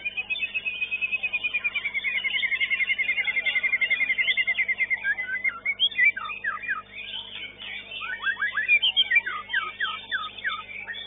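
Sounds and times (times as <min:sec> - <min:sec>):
bird singing: 0:00.0 - 0:11.0
faint steady hum: 0:00.0 - 0:11.0.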